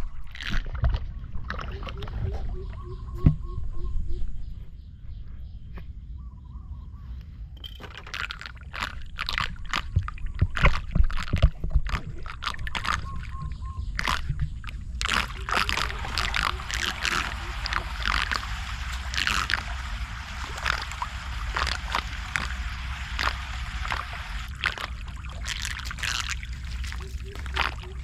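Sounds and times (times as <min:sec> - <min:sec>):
floodwater splashing and sloshing: 0:00.0 - 0:02.8, 0:07.8 - 0:28.0
steady low rumble: 0:00.9 - 0:07.8, 0:08.9 - 0:28.0.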